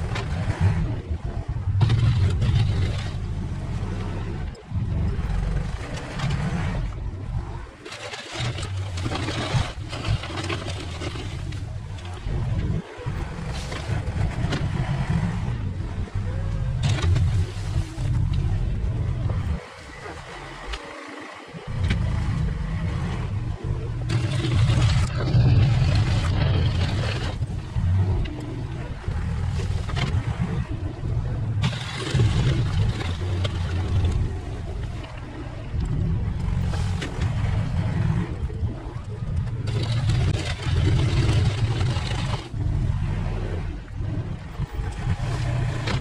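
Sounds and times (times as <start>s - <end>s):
earth-moving machine engine: 0.0s - 46.0s.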